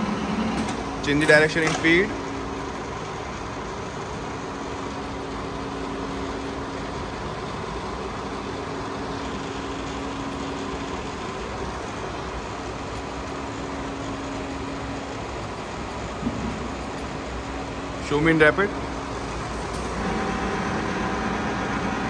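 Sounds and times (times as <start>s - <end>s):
constant machine whine: 0.0s - 22.0s
milling machine humming: 0.0s - 22.0s.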